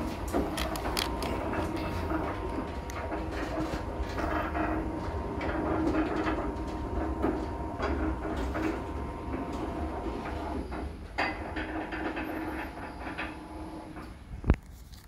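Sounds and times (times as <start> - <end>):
gate wheels rattling and clicking: 0.0 - 14.2
sliding gate rolling rumble: 0.0 - 14.5.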